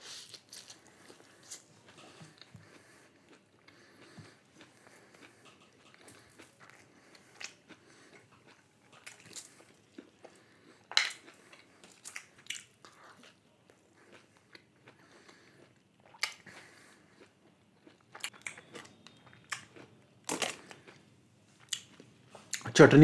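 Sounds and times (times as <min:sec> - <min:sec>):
person chewing crunchy food: 0:00.0 - 0:22.6.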